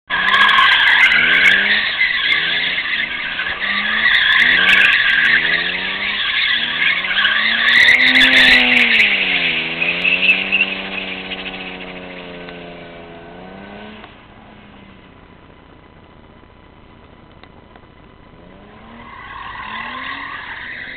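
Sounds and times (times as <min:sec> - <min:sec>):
engine revving: 0:00.1 - 0:15.1, 0:18.3 - 0:20.9
car tyres squealing: 0:00.1 - 0:15.3, 0:18.3 - 0:20.9.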